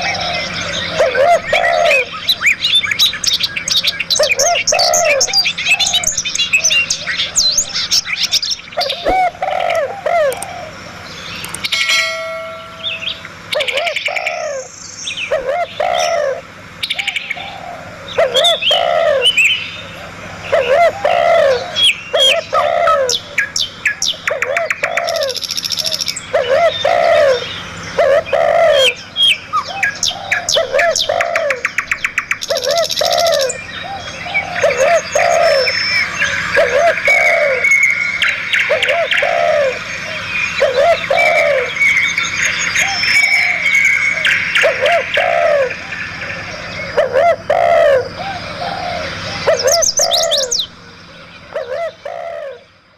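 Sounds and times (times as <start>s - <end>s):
bird chirps and trills: 0.0s - 52.9s
low arched bird call: 0.0s - 52.9s.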